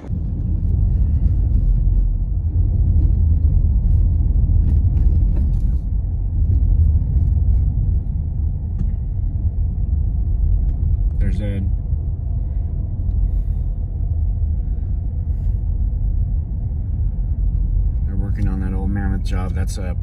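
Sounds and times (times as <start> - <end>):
vehicle rumble on snowy road: 0.0 - 20.0.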